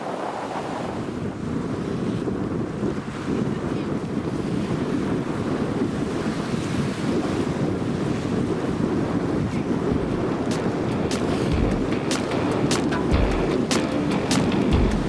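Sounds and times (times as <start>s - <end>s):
sea waves rushing: 0.0s - 15.0s
wind buffeting microphone: 0.0s - 15.0s.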